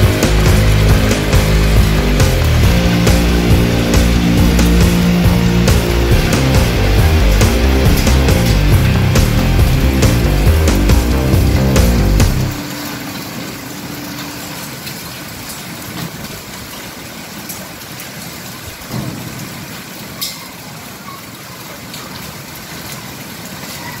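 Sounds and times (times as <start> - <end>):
heavy rain falling: 0.0 - 24.0
raindrops landing as sharp ticks: 0.0 - 24.0.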